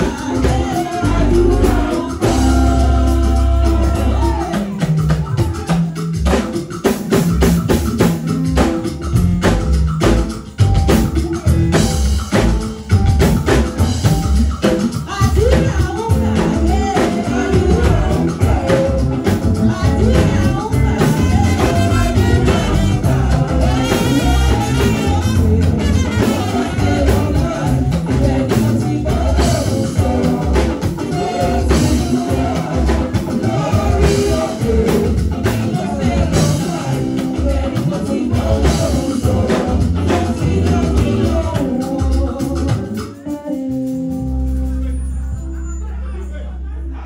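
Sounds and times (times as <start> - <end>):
voices singing: 0.0 - 7.2, 14.8 - 47.0
band with drums: 0.0 - 45.8.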